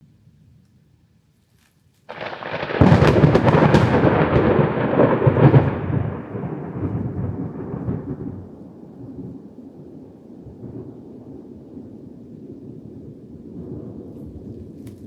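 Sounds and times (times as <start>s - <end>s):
thunder crack and rumble: 2.1s - 15.0s.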